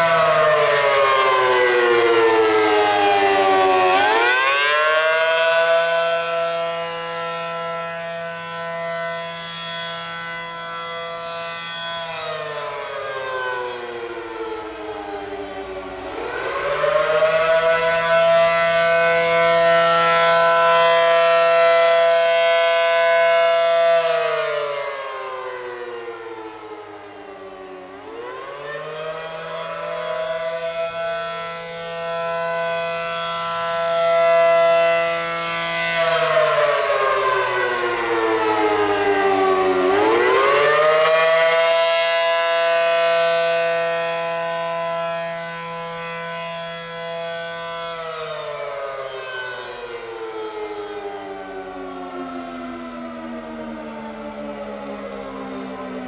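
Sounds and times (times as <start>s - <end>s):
rotating siren wailing: 0.0s - 56.0s.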